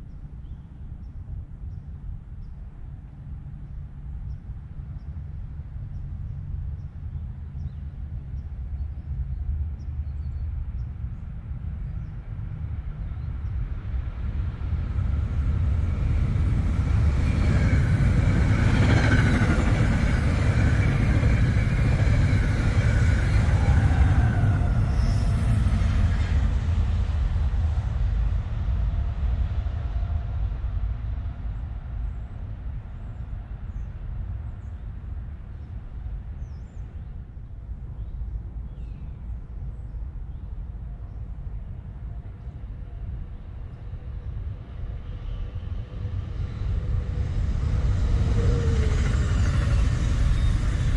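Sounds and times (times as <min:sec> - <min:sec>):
train wheels rumbling on rail: 0:03.2 - 0:37.9, 0:42.8 - 0:50.9.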